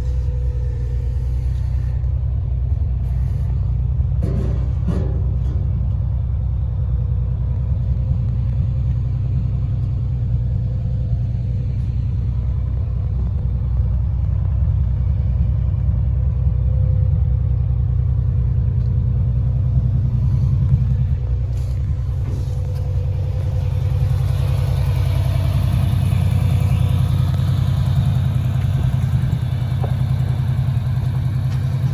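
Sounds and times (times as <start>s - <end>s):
engine low rumble: 0.0s - 31.9s.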